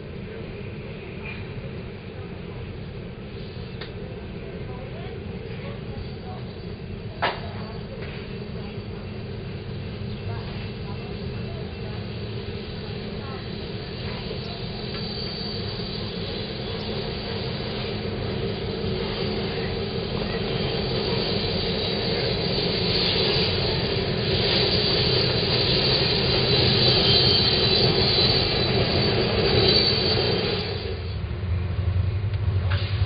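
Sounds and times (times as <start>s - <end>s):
diesel locomotive engine rumble: 0.0s - 33.0s
train rolling hiss: 0.0s - 33.0s.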